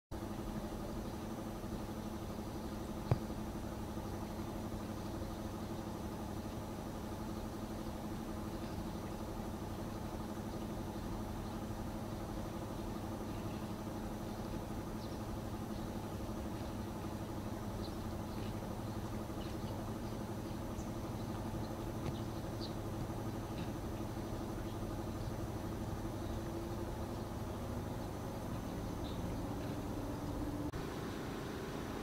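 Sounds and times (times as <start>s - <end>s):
low machine hum: 0.1s - 32.0s.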